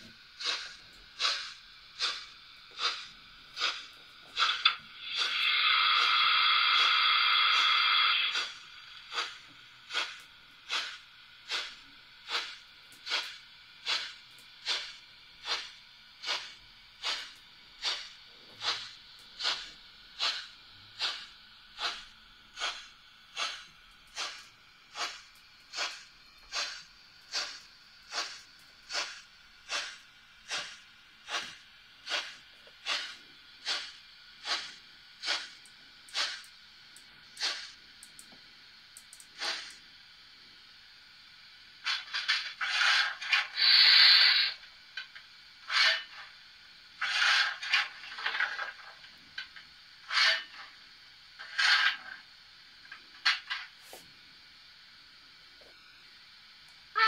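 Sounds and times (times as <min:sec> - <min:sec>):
slow steam chuff: 0:00.0 - 0:57.0.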